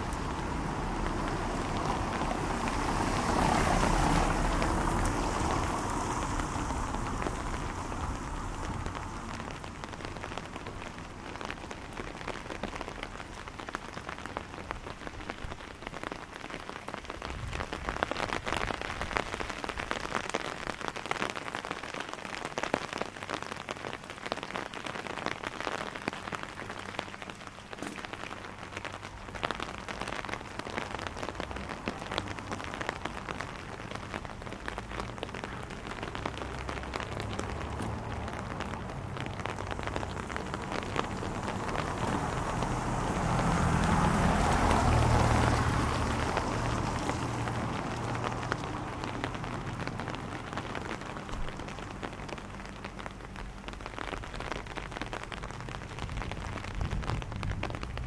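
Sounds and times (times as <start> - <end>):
rain pattering on an umbrella: 0.0 - 58.0.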